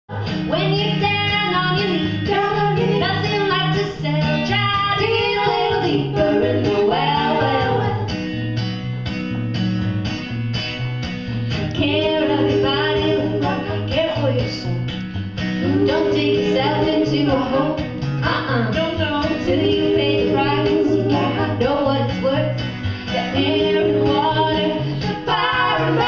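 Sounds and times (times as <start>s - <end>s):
bass line: 0.1s - 26.0s
strummed acoustic guitar: 0.1s - 26.0s
women singing in harmony: 0.5s - 8.2s, 11.8s - 14.7s, 15.6s - 26.0s.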